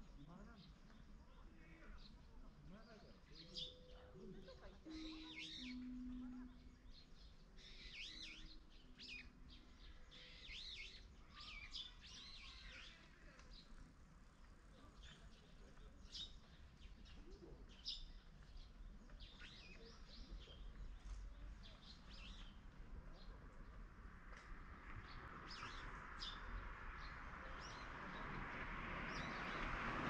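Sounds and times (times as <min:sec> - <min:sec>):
small birds chirping: 0:00.0 - 0:29.8.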